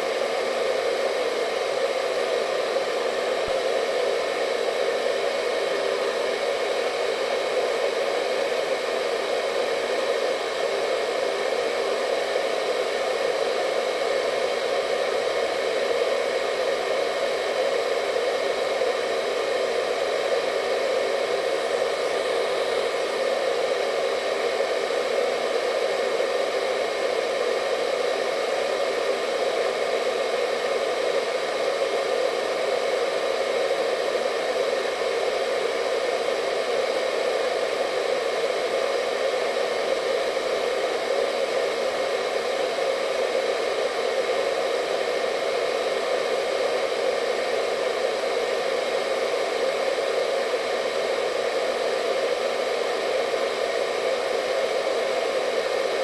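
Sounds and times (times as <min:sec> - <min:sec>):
faint motor whine: 0:00.0 - 0:56.0
hair dryer air rush: 0:00.0 - 0:56.0.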